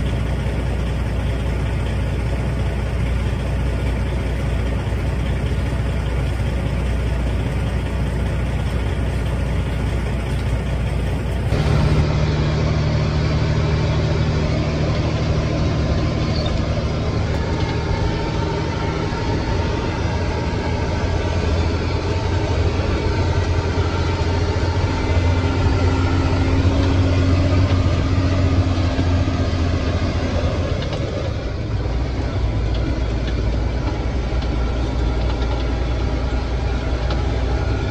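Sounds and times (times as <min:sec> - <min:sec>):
diesel truck engine idling: 0:00.0 - 0:37.9
truck engine hum from cab: 0:00.0 - 0:37.9.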